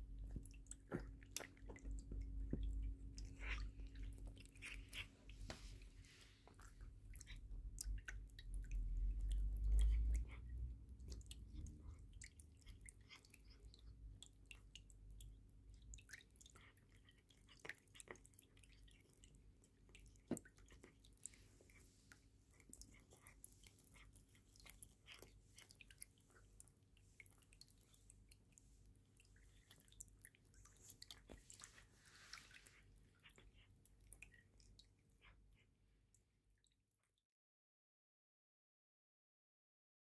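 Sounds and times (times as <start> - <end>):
cat chewing wet clicks: 0.2 - 35.6.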